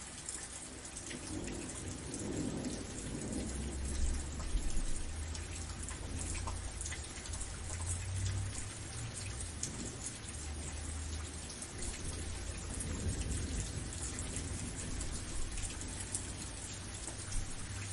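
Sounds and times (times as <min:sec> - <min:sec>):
rain hissing: 0:00.0 - 0:17.9
thunder rumbling: 0:01.2 - 0:17.9.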